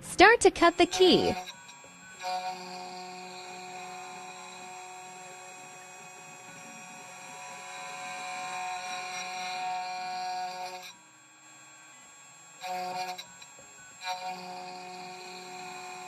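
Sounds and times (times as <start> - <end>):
key cutting machine whine: 0.0 - 16.0.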